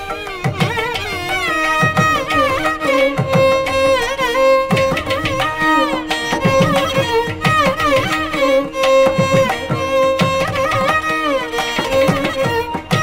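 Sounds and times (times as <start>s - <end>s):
hand drum and clay pot percussion: 0.0s - 13.0s
violin playing ornamented melody: 0.0s - 13.0s.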